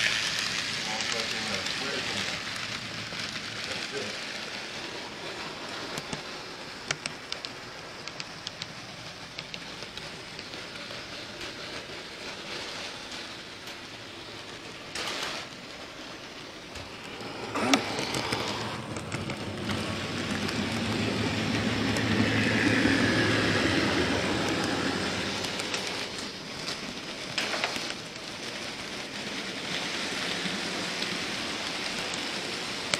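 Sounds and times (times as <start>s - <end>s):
model train wheels rattling on rail: 0.0s - 32.9s.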